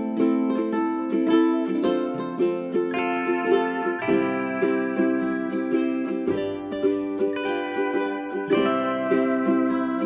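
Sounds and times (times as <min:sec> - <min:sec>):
plucked string tune: 0:00.0 - 0:10.0.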